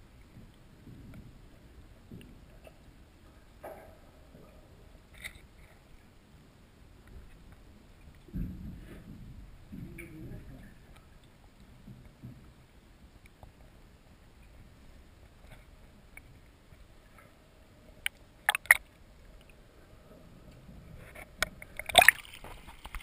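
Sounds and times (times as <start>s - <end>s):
faint water hiss: 0.0s - 23.0s.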